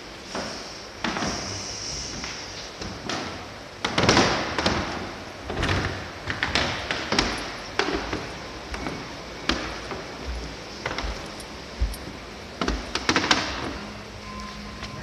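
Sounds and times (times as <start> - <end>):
noisy background: 0.0 - 15.0.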